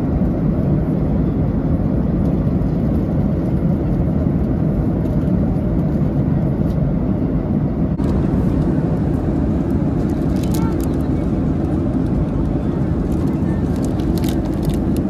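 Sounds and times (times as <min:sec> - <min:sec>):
jet engine rumble in cabin: 0:00.0 - 0:15.0.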